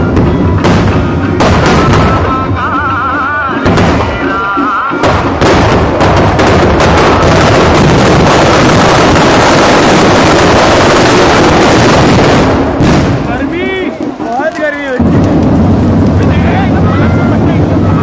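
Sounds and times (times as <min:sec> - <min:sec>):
firecrackers crackling: 0:00.0 - 0:18.0.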